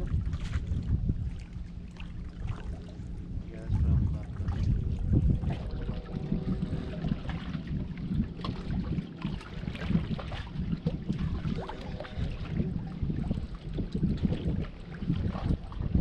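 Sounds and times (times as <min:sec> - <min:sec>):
gusty wind on microphone: 0:00.0 - 0:16.0
water lapping against rocks: 0:00.0 - 0:16.0.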